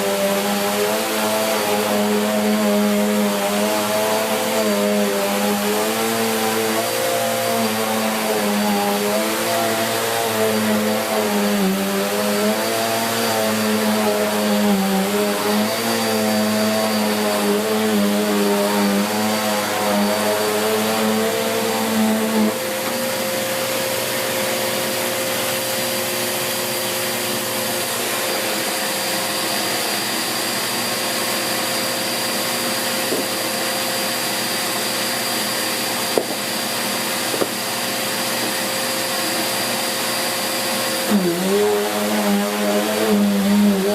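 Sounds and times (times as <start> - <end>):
vacuum cleaner on carpet: 0.0 - 43.9.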